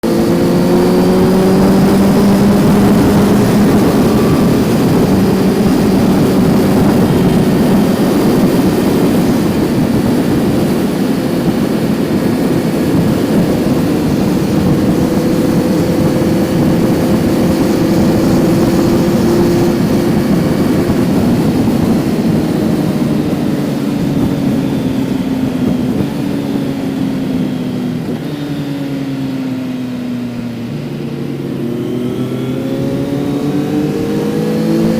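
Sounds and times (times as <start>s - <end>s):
motorcycle engine running: 0.0s - 34.9s
wind and road noise: 0.0s - 34.9s.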